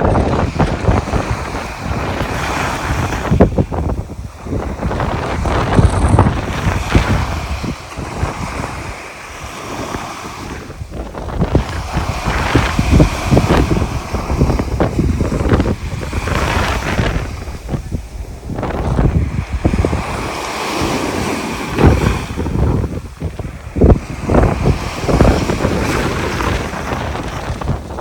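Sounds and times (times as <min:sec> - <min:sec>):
sea waves breaking on shore: 0:00.0 - 0:28.0
wind buffeting microphone: 0:00.0 - 0:28.0.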